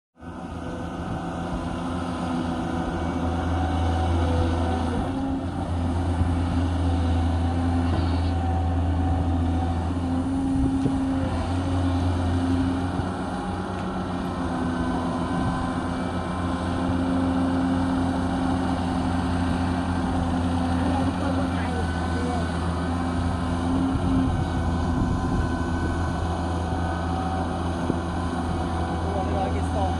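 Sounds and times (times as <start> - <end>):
excavator diesel engine droning: 0.2 - 29.9.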